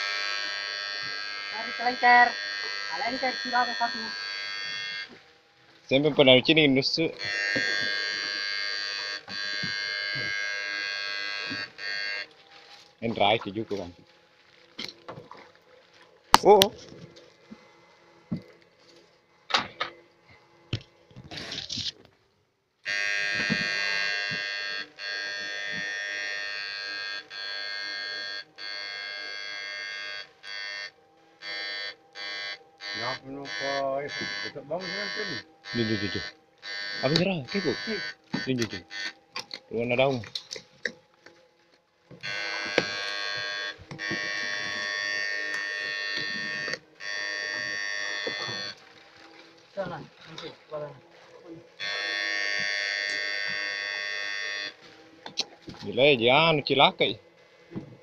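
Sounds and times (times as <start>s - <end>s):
electric fish stunner buzzing: 0.0s - 58.0s.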